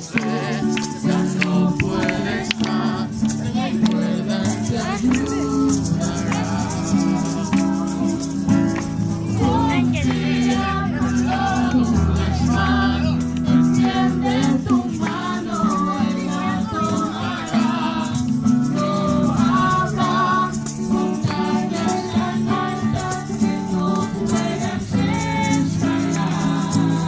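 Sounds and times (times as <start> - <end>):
group singing: 0.0 - 27.0
shaken rattle: 0.0 - 27.0
strummed guitar: 0.0 - 27.0.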